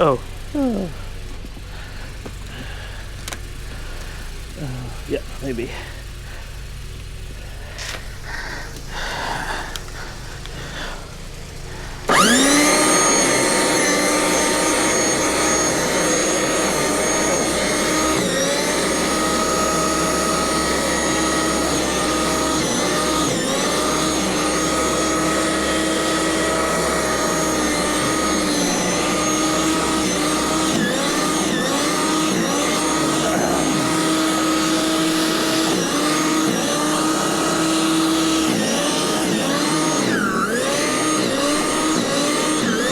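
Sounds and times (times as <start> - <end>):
snow blower whine: 0.0 - 42.9.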